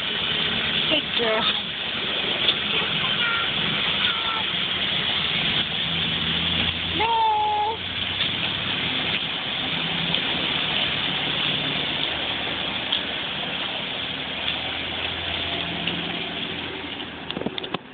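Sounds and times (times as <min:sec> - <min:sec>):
vehicle engine humming: 0:00.0 - 0:17.9.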